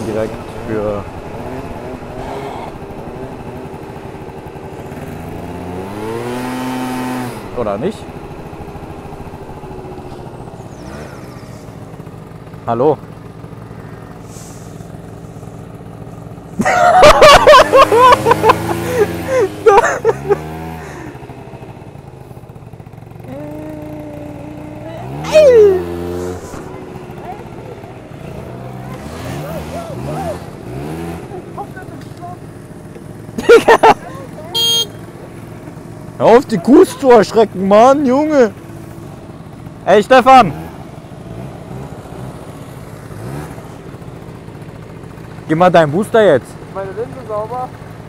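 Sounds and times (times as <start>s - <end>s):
road noise: 0.0s - 48.0s
two-stroke scooter engine: 0.0s - 48.0s.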